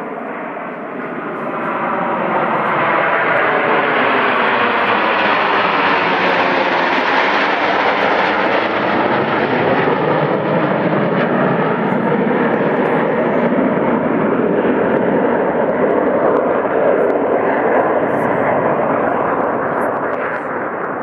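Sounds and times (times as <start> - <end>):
airplane engine passing: 0.0 - 21.0.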